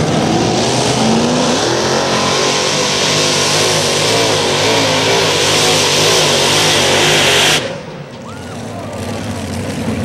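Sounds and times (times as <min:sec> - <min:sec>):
tractor engine at full power: 0:00.0 - 0:10.0.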